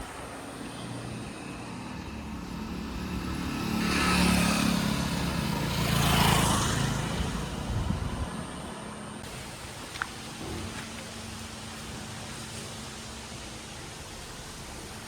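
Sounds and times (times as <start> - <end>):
vehicles passing close by: 0.0 - 15.0.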